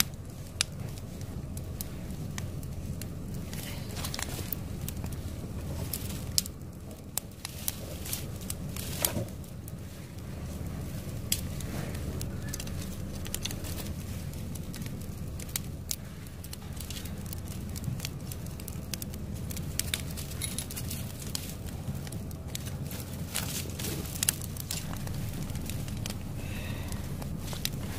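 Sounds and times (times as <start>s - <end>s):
fire crackling and popping: 0.0s - 27.9s
wood fire rumbling: 0.0s - 27.9s.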